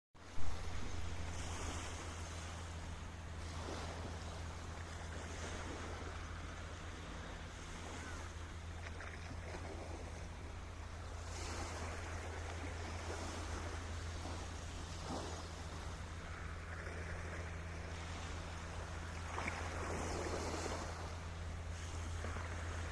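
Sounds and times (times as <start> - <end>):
sea waves breaking: 0.2 - 22.9
steady low hum: 0.2 - 22.9.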